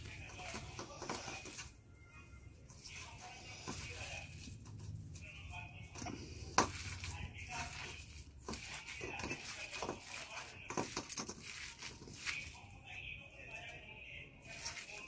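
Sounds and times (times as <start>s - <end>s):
hand squelching batter: 2.6s - 15.0s.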